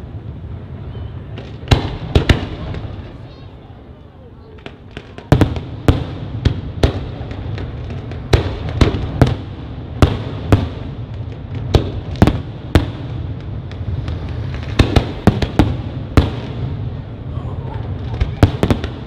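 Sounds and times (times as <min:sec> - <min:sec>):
continuous low rumble: 0:00.0 - 0:19.0
fireworks bangs: 0:00.0 - 0:19.0.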